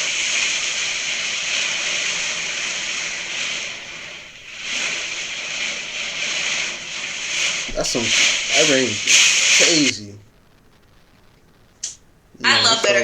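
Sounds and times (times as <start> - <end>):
heavy rain: 0.0 - 13.0
wind gusts: 0.0 - 13.0.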